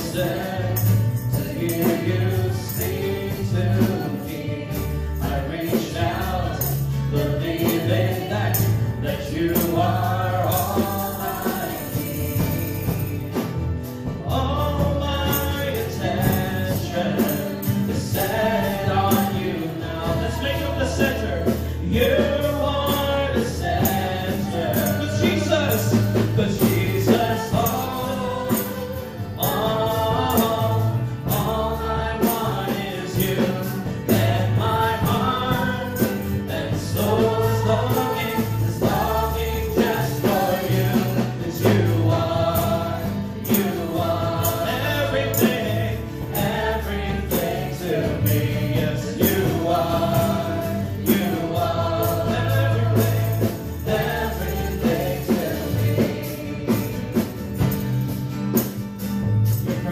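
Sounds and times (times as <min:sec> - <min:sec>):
group of voices singing: 0:00.0 - 0:57.9
gospel band playing: 0:00.0 - 0:59.9.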